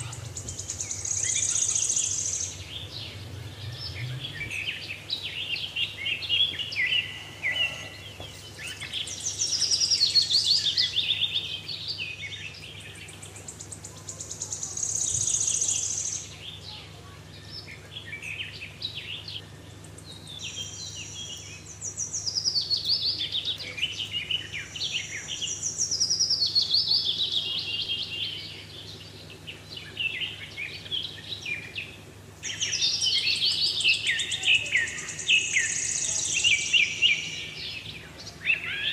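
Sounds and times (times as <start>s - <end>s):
faint low hum: 0.0s - 38.9s
songbirds chirping and singing: 0.0s - 38.9s.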